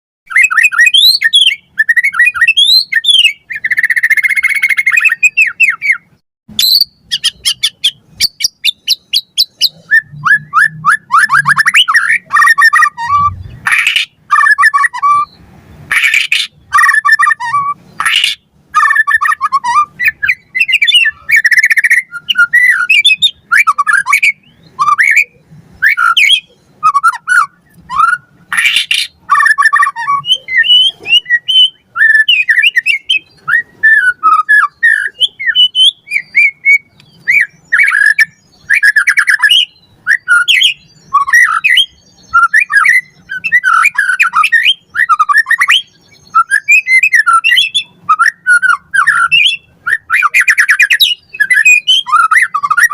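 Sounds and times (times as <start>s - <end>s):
bird singing: 0.3s - 52.9s.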